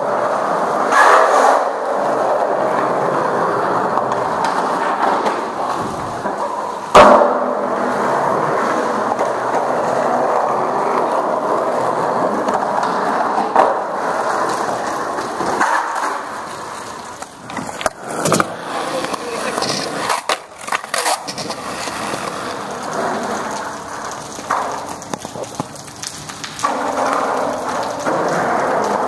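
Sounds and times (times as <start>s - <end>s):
skateboard clacking on ground: 0.0s - 29.0s
skateboard wheels rolling on pavement: 0.0s - 29.0s.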